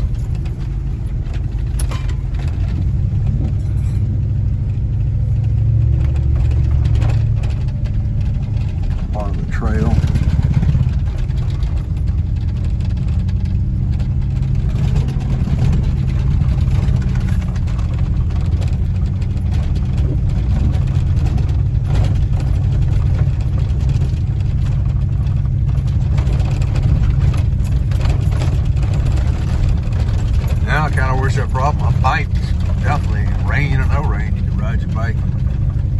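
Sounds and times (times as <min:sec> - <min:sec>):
truck engine and tyres rumbling: 0:00.0 - 0:35.9.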